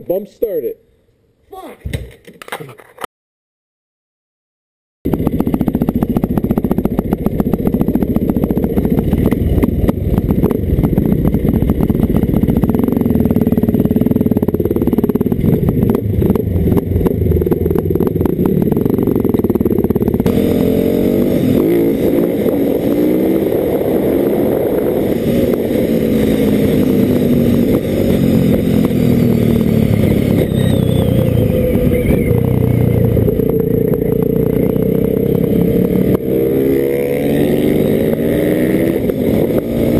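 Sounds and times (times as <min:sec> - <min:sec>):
dirt bike engine revving: 0:05.1 - 0:39.9.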